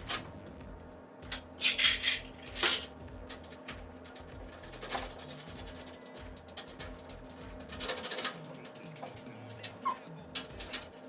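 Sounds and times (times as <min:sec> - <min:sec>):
metal tools clinking and rattling: 0:01.3 - 0:11.0.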